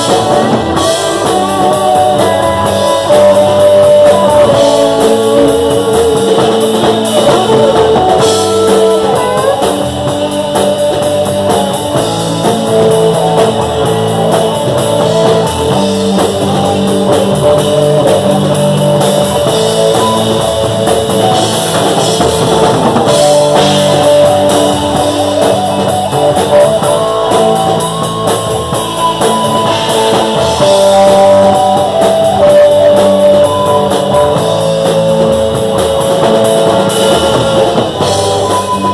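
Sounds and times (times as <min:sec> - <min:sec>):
drums steady beat: 0:00.0 - 0:38.9
rock band electric guitars: 0:00.0 - 0:38.9.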